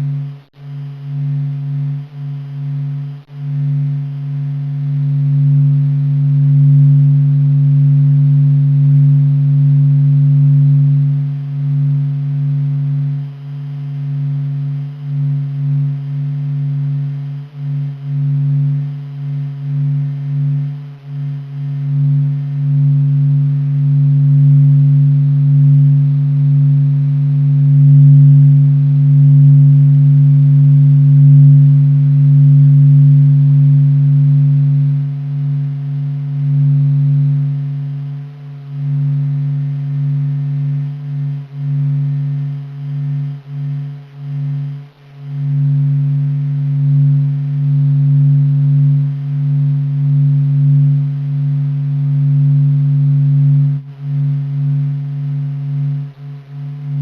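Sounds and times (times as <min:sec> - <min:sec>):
low hum with overtones: 0:00.0 - 0:57.0.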